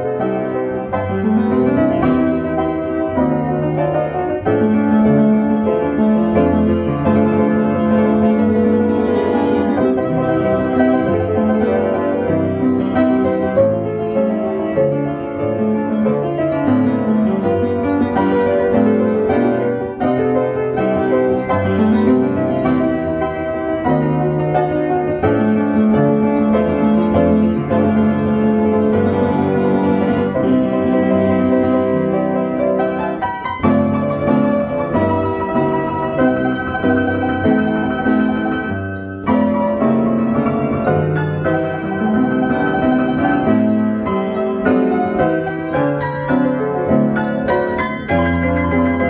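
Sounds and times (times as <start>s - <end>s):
player piano music: 0.0s - 49.0s.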